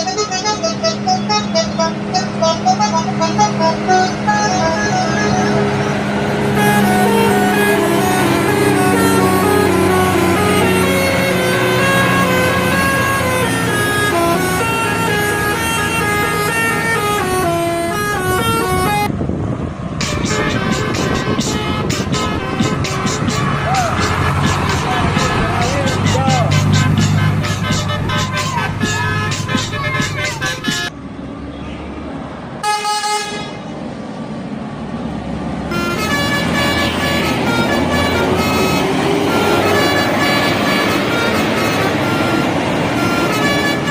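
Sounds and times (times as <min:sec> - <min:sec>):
bus horn playing melody: 0:00.0 - 0:19.2, 0:20.0 - 0:30.9, 0:32.6 - 0:33.7, 0:35.6 - 0:43.9.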